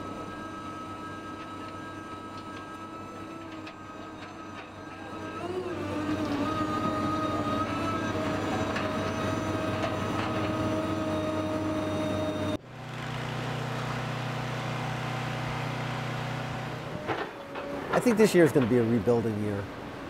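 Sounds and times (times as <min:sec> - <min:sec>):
excavator engine drone: 0:00.0 - 0:20.0
low machine hum: 0:00.0 - 0:20.0.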